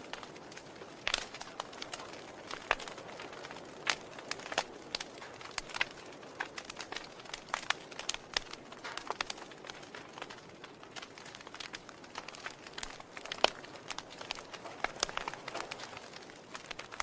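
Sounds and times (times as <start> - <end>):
fire hissing: 0.0 - 17.0
wood fire crackling and popping: 0.0 - 17.0.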